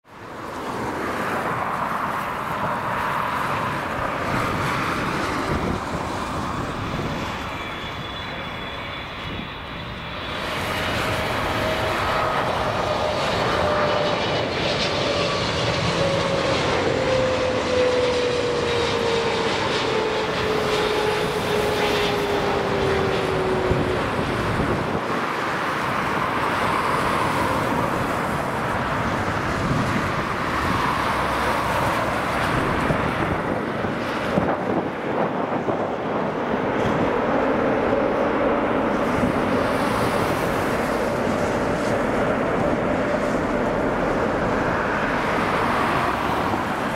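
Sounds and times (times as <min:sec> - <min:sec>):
jet engines rushing and whining: 0:00.0 - 0:46.9.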